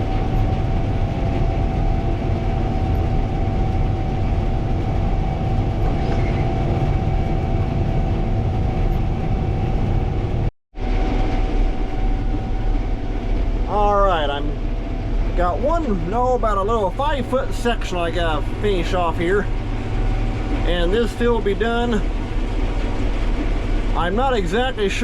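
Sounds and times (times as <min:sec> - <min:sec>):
combine harvester engine drone: 0:00.0 - 0:25.0
constant machinery whine: 0:00.0 - 0:25.0.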